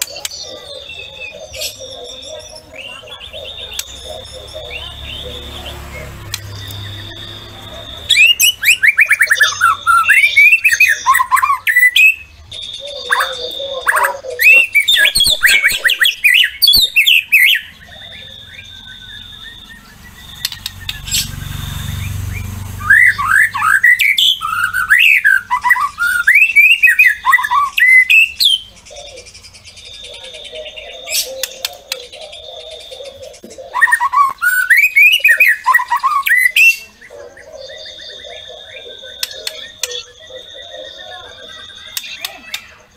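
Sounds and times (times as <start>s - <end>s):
bird singing whistles and chatter: 0.0s - 42.9s.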